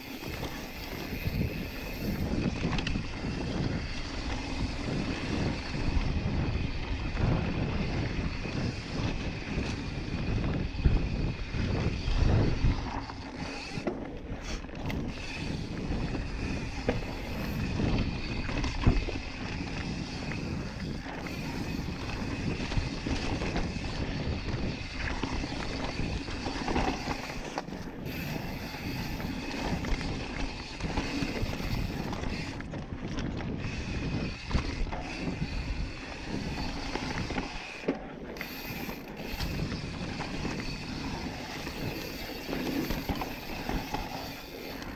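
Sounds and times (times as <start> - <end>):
bike rattling over bumps: 0.0 - 44.9
wind on microphone: 0.0 - 44.9
tyres rolling on dirt: 8.6 - 44.9.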